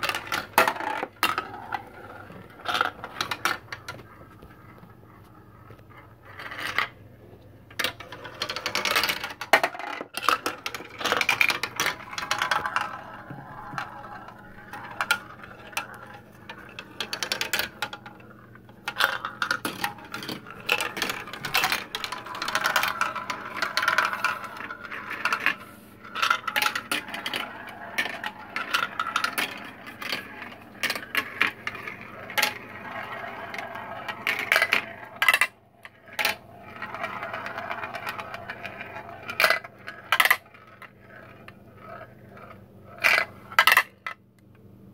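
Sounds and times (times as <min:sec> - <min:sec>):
marbles rattling through plastic run: 0:00.0 - 0:04.0, 0:07.8 - 0:44.1.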